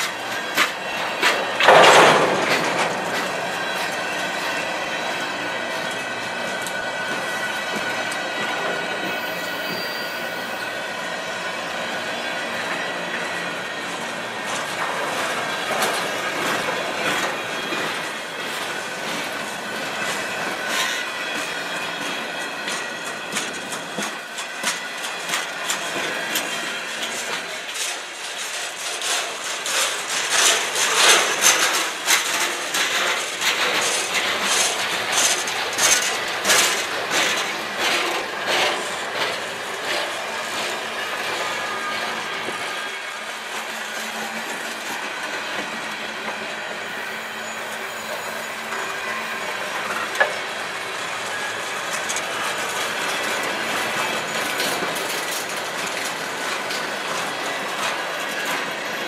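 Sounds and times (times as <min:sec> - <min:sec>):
train wheels clacking on rails: 0:00.0 - 0:59.0.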